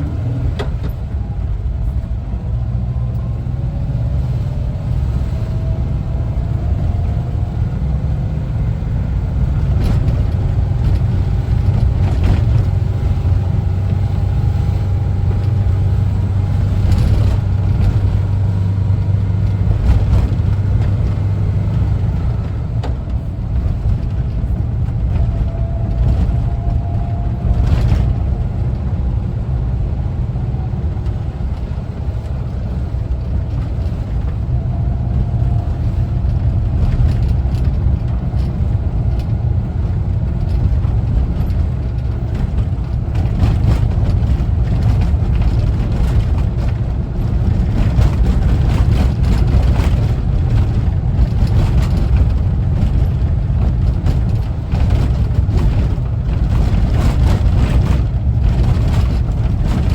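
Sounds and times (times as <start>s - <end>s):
low road rumble: 0.0s - 59.9s
van engine running: 0.0s - 59.9s.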